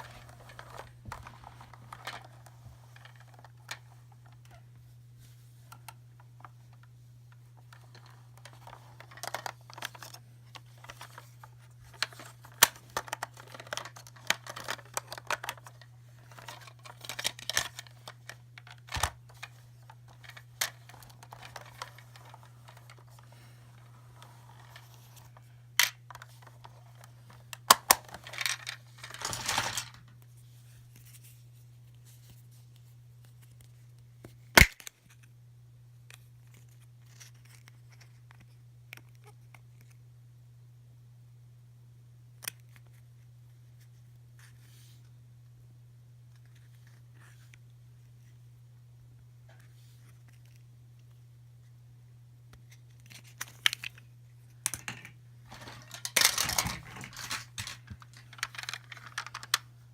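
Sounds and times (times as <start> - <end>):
plastic toys and packaging handled: 0.0 - 40.0, 42.4 - 45.2, 46.2 - 48.4, 49.4 - 51.8, 52.5 - 59.9.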